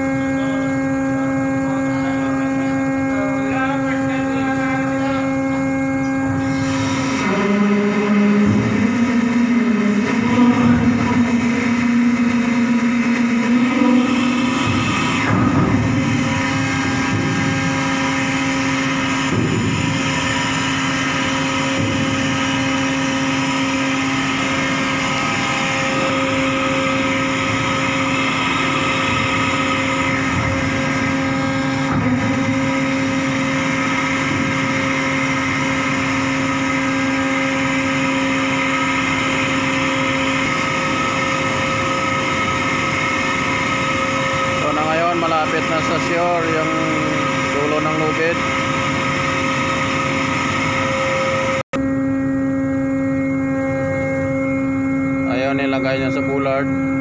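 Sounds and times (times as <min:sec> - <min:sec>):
deck machinery humming: 0:00.0 - 0:57.0.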